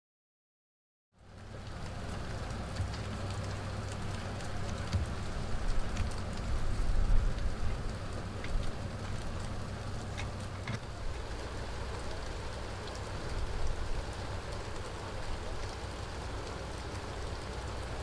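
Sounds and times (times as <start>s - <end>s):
faint drip ticks: 1.2s - 18.0s
steady rain falling: 1.2s - 18.0s.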